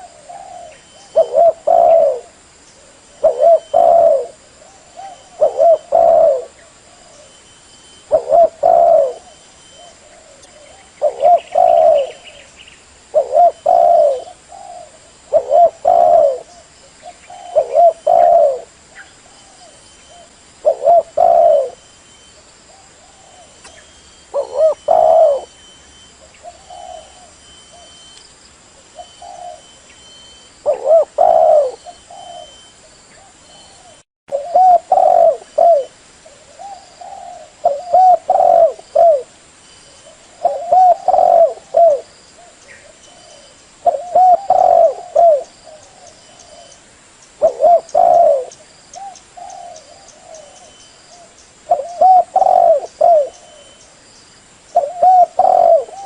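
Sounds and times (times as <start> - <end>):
dove cooing: 0.0 - 12.5, 13.1 - 21.9, 22.7 - 28.1, 28.9 - 46.8, 47.4 - 53.8, 54.7 - 56.0.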